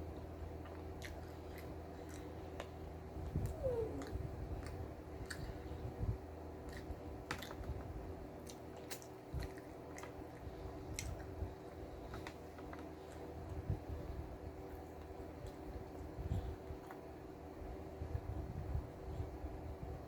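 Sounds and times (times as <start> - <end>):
close chewing with mouth clicks: 0.1 - 17.3.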